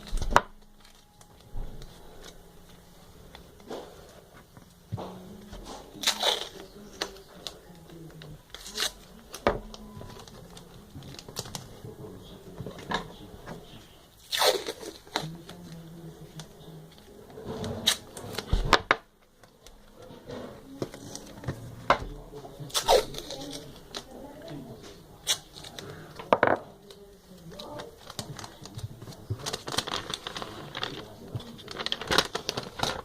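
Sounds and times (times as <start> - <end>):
rustling and crinkling: 0.0 - 33.0.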